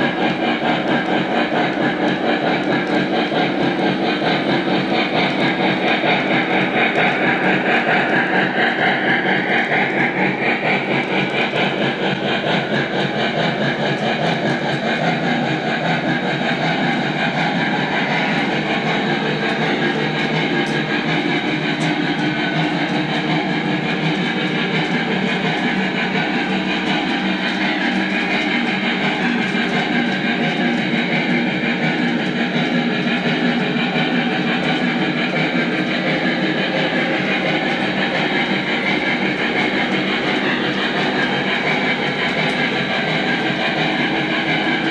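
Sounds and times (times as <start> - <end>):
model locomotive steam effects: 0.0 - 44.9
model train wheels clattering: 0.0 - 44.9.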